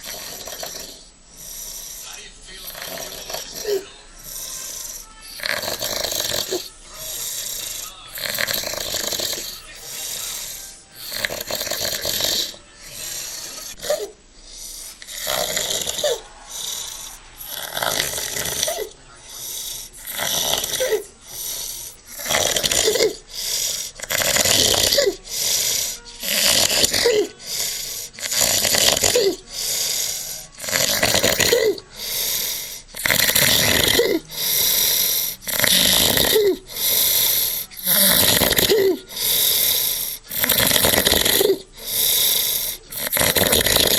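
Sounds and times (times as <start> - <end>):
man snoring loudly: 0.0 - 43.9.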